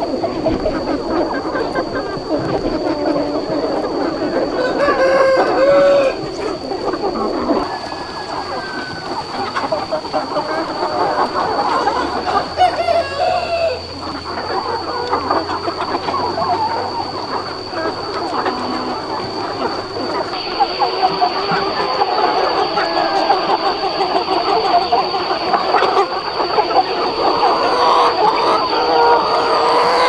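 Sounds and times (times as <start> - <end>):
chickens clucking: 0.0 - 30.0
steady high-pitched whine: 0.0 - 30.0.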